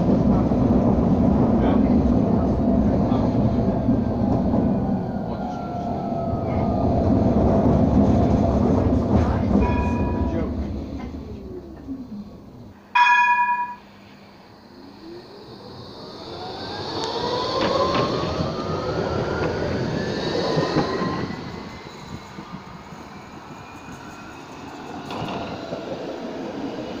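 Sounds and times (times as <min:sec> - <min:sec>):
tram traction motor whine: 0:00.0 - 0:27.0
tram wheel and track noise: 0:00.0 - 0:27.0.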